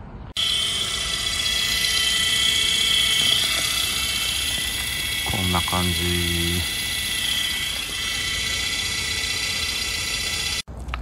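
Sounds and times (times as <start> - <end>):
drill-driven pump whining: 0.4 - 10.7.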